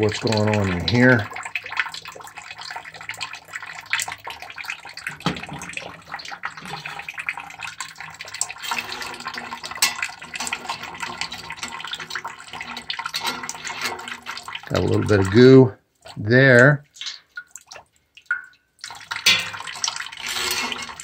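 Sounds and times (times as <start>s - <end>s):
water running into metal bucket: 0.0s - 21.0s.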